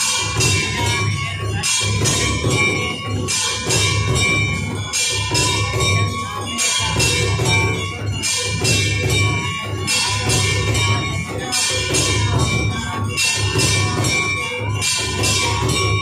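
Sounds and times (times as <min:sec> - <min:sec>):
jingling bell-like percussion: 0:00.0 - 0:16.0.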